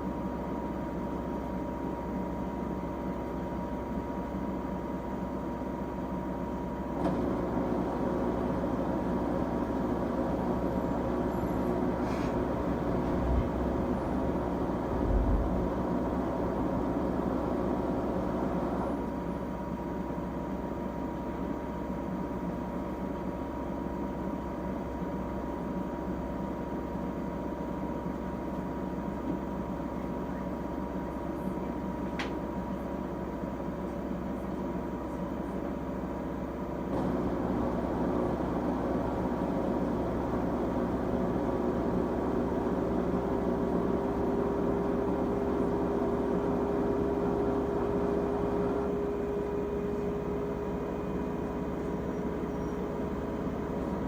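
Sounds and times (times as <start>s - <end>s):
washing machine hum: 0.0s - 54.0s.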